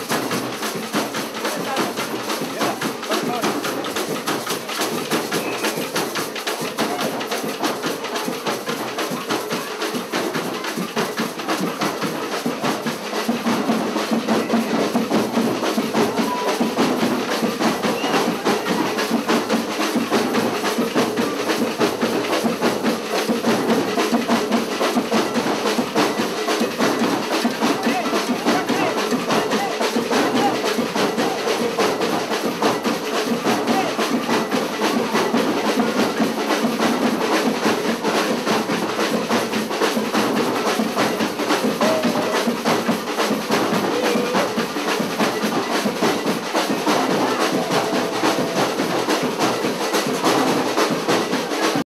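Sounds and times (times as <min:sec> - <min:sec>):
crowd voices: 0:00.0 - 0:51.8
percussion band drumming: 0:00.0 - 0:51.9.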